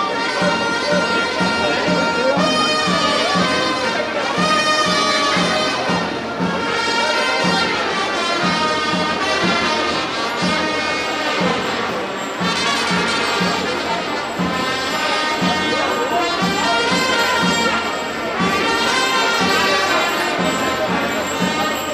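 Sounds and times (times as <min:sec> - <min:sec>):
wind band music with horns: 0:00.0 - 0:21.9.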